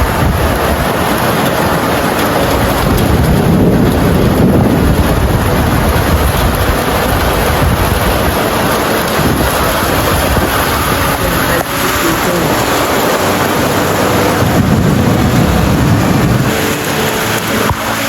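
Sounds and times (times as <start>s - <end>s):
rain hiss: 0.0s - 18.0s
wind buffeting microphone: 0.0s - 18.0s.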